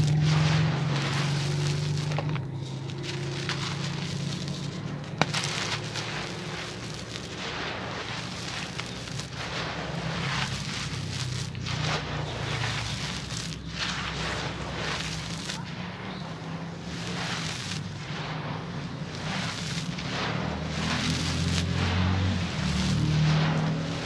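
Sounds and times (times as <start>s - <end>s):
gritty soil pattering and crackling: 0.0s - 24.0s.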